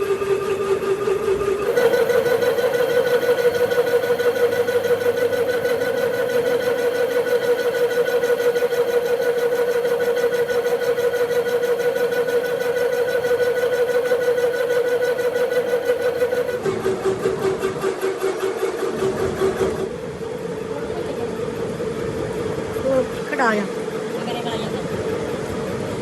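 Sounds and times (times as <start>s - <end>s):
machine motor whining hum: 0.0s - 26.0s.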